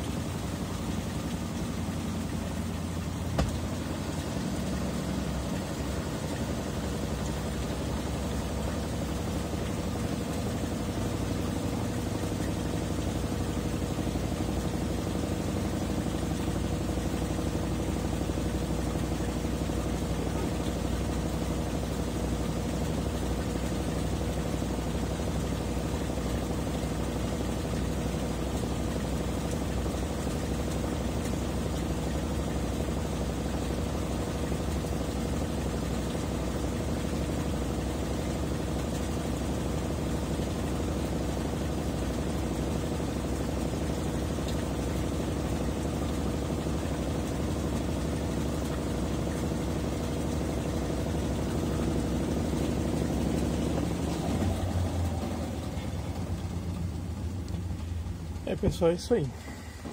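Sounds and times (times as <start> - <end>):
washing machine spinning: 0.0 - 59.9.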